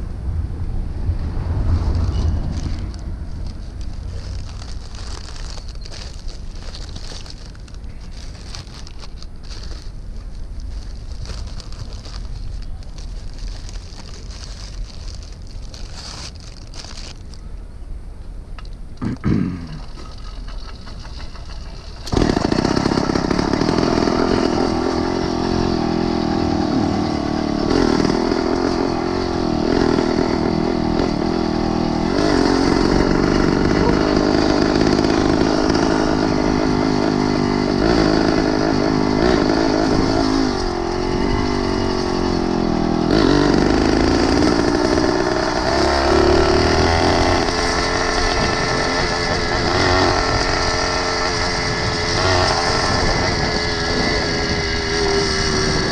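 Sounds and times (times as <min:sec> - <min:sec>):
mini bike engine revving: 0:01.6 - 0:17.4, 0:19.0 - 0:55.9.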